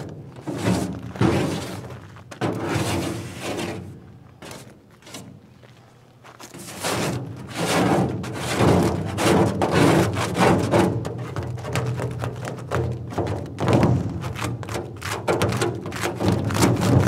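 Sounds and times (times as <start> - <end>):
scraper scraping paint off metal: 0.4 - 5.4, 6.5 - 12.5, 14.2 - 17.0.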